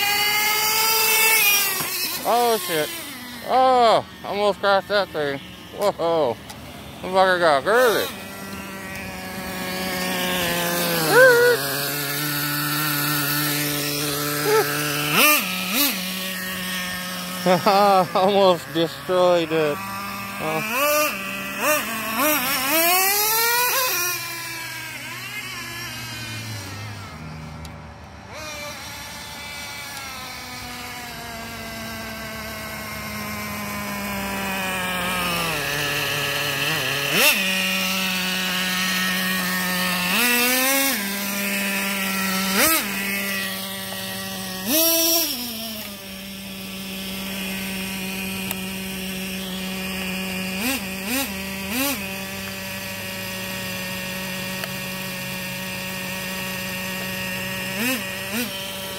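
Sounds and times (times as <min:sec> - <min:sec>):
model truck engine revving: 0:00.0 - 0:58.9.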